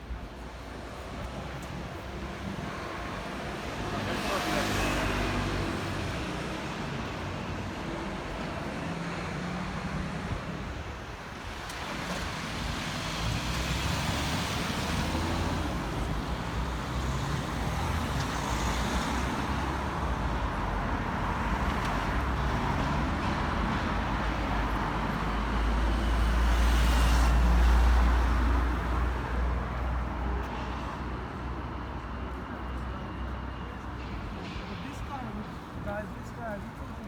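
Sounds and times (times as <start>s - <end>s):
passing cars: 0.0s - 37.0s.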